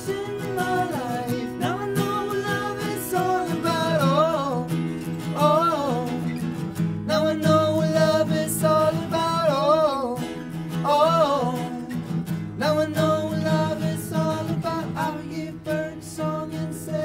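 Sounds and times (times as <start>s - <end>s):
acoustic guitars strummed: 0.0s - 17.0s
men singing: 0.0s - 17.0s.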